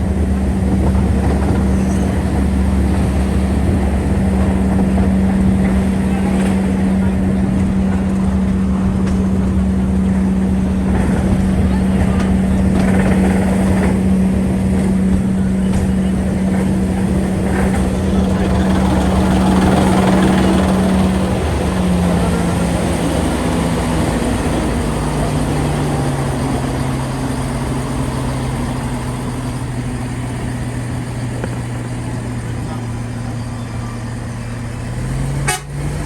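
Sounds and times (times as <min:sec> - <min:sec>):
engine hum: 0:00.0 - 0:36.0
train rumble: 0:00.0 - 0:36.0.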